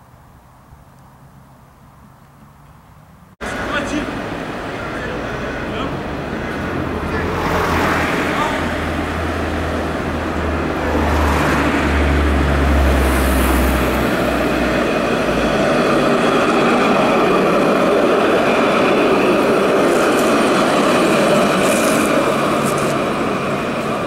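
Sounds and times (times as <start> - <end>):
tram wheels rolling on rails: 2.0 - 24.0.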